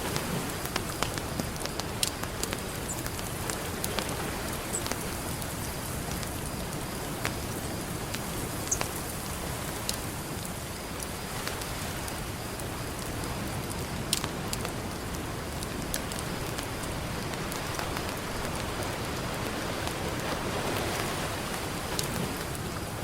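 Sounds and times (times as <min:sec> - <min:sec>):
campfire crackling and popping: 0:00.0 - 0:23.0
ocean surf: 0:00.0 - 0:23.0.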